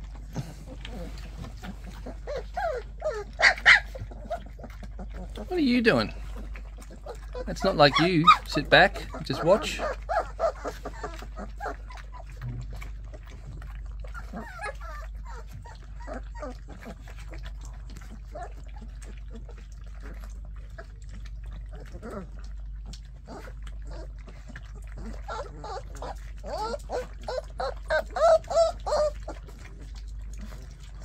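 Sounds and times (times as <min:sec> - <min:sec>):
puppies lapping milk: 0:00.0 - 0:31.0
puppies whimpering and squeaking: 0:00.0 - 0:31.0.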